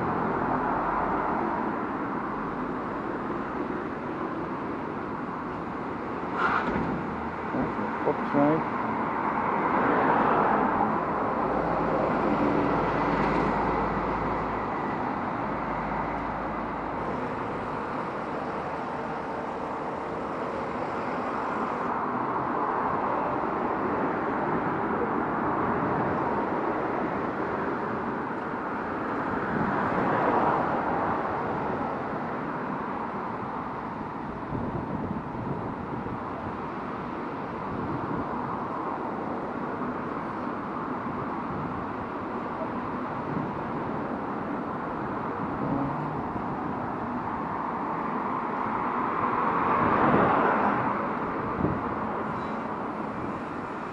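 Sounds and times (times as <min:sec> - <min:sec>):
cars passing: 0:00.0 - 0:53.9
low engine hum: 0:00.0 - 0:53.9
steady traffic rushing: 0:00.0 - 0:53.9.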